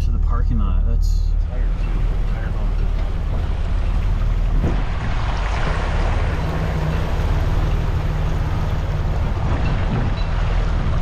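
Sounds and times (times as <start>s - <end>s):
low vehicle rumble: 0.0s - 11.0s
water splashing from tyres: 1.6s - 11.0s.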